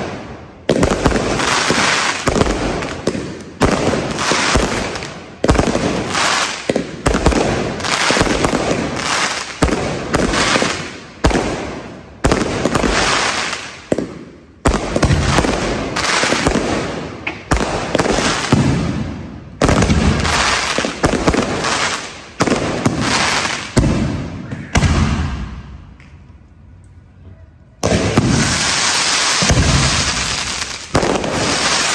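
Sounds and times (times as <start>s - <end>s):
fireworks crackle and hiss: 0.0s - 19.0s, 19.6s - 25.5s, 27.8s - 31.9s
fireworks bangs: 0.0s - 26.0s, 27.8s - 31.9s.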